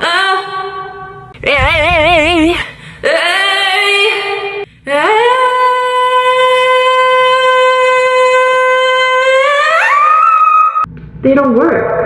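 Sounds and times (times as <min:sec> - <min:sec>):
woman singing without words: 0:00.0 - 0:09.9.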